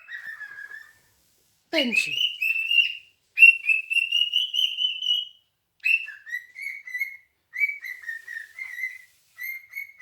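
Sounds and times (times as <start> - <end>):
cockatiel harsh whistling calls: 0.0 - 1.1, 2.1 - 10.0.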